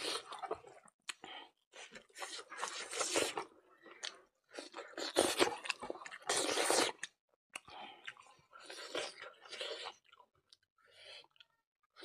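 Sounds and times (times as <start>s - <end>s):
close wet crunchy chewing: 0.0s - 11.2s.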